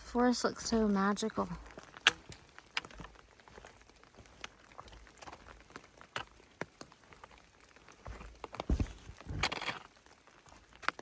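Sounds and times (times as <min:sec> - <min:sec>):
light rain patter: 0:00.0 - 0:11.0.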